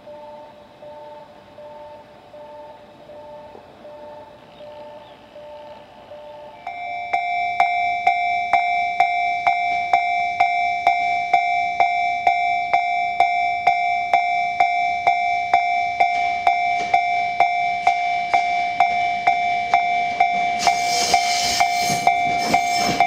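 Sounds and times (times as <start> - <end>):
level crossing alarm bell: 0.0 - 23.0
steady ringing tone: 0.0 - 23.0.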